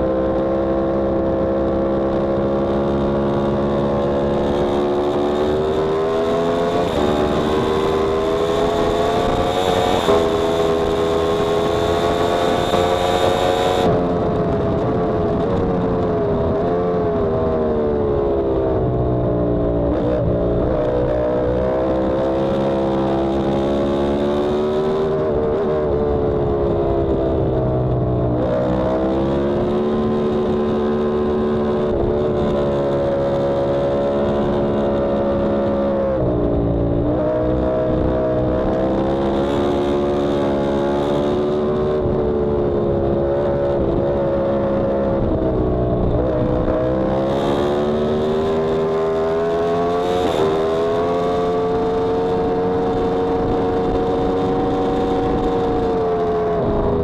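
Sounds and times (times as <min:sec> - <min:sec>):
motorcycle engine revving and downshifting: 0:00.0 - 0:57.0.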